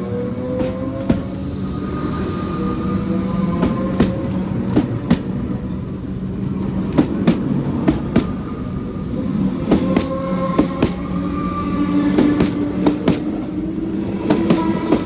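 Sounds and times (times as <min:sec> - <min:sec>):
faint whine: 0:00.0 - 0:15.0
train rumble: 0:00.0 - 0:15.0
wheels clacking over rail joints: 0:00.0 - 0:15.0.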